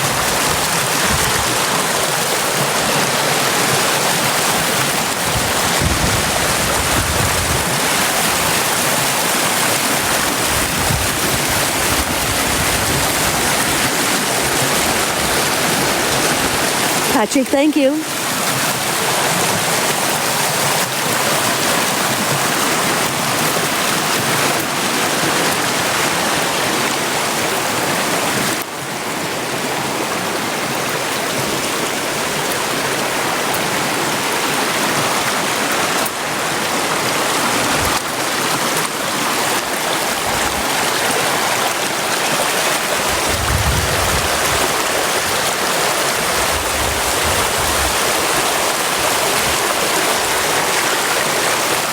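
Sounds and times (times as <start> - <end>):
river rushing: 0.0 - 51.9.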